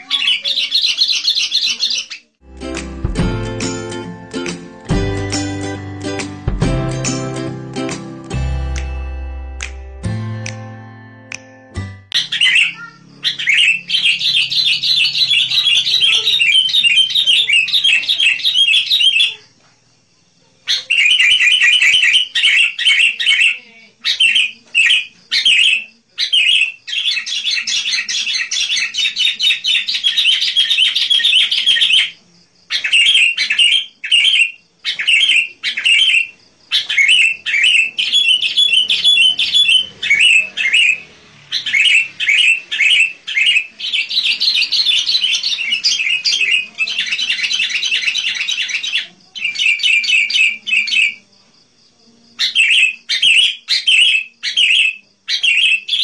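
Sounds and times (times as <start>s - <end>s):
bulbul singing: 0.0s - 19.6s, 20.6s - 51.2s, 52.4s - 56.0s.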